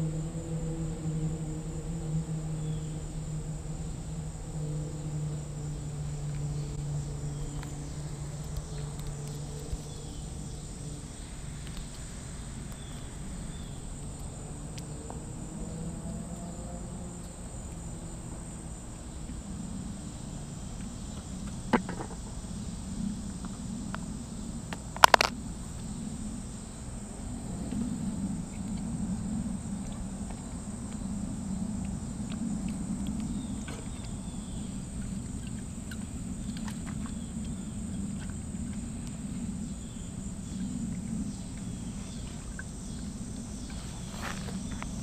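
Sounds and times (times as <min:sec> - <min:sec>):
distant motor hum: 0:00.0 - 0:45.0
high insect drone: 0:00.0 - 0:45.0.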